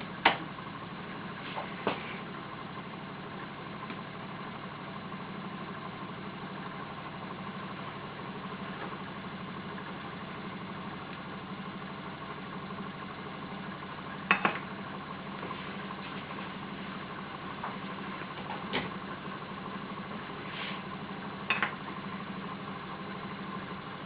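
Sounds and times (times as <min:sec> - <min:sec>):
stirling engine mechanical clatter: 0:00.0 - 0:24.0.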